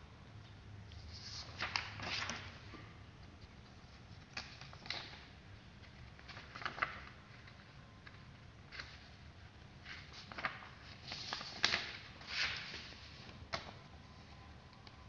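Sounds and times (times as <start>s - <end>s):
paper rustling and crackling: 1.0s - 13.8s.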